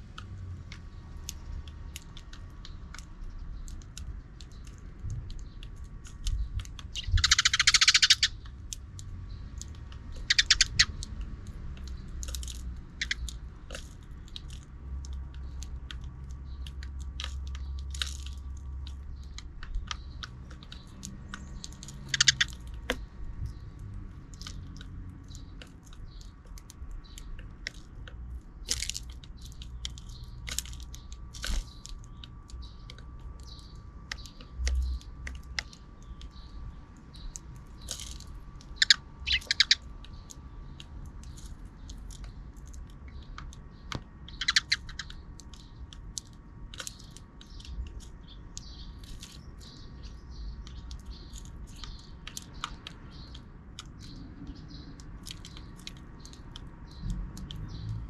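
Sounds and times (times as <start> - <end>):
dry clicks and crackles: 0.0 - 58.0
sparrows chirping: 0.0 - 58.0.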